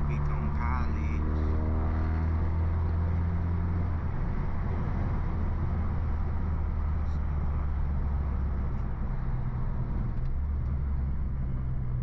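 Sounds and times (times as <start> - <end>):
car engine droning: 0.0 - 12.0
road noise: 0.0 - 12.0.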